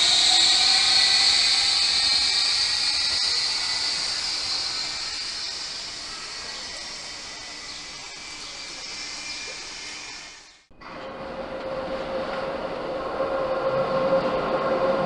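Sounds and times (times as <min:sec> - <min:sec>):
electric train pulling away: 0:00.0 - 0:15.0.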